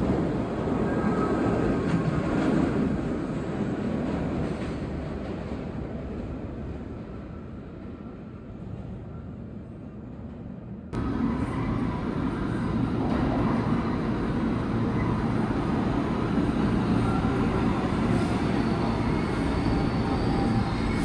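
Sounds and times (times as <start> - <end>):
subway station rumble: 0.0 - 21.0
subway train rumbling: 0.0 - 21.0.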